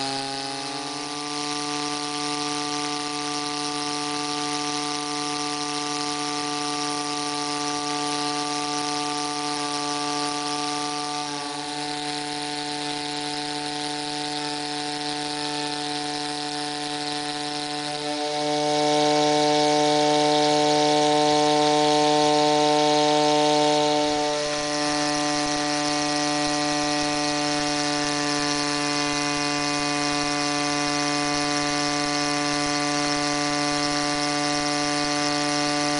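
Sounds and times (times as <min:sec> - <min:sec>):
miniature steam engine running: 0:00.0 - 0:35.9.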